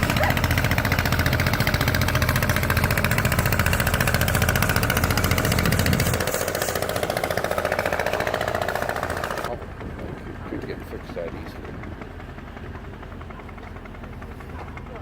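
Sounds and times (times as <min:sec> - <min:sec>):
boat engine throbbing: 0:00.0 - 0:15.0.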